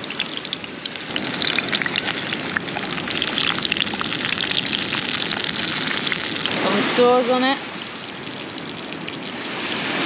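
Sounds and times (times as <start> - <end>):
fish frying with sizzle: 0.0 - 10.0.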